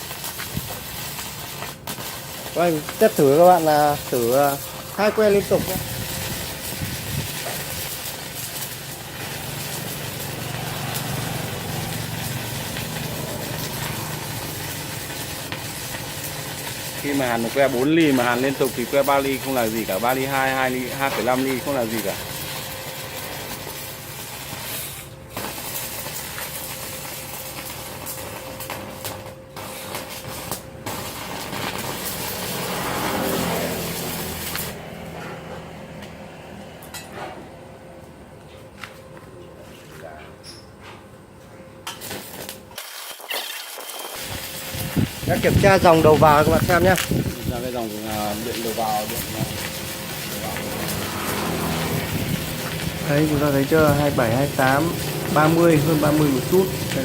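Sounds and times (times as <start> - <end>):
welding arc crackling: 0.0 - 37.0, 41.8 - 57.0
low welder hum: 0.0 - 57.0.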